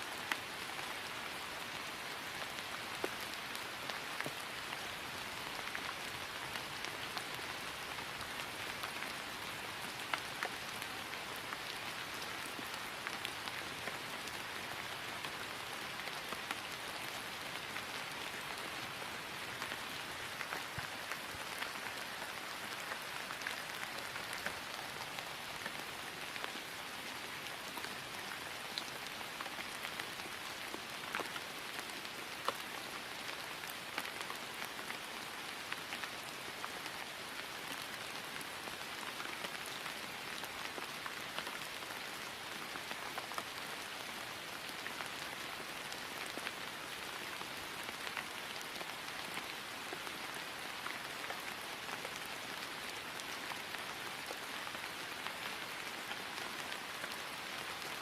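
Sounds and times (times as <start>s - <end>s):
rain falling on grass: 0.0s - 58.0s.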